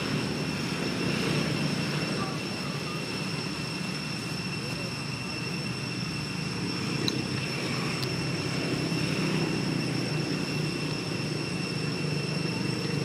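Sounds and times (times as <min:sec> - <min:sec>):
high-pitched whine: 0:00.0 - 0:13.0
low engine rumble: 0:00.0 - 0:13.0.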